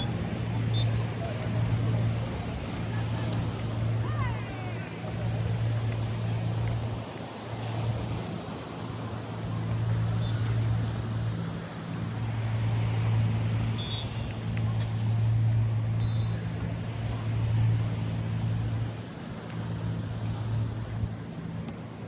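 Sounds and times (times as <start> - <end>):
low engine-like hum: 0.0 - 22.0
outdoor noise: 0.0 - 22.0.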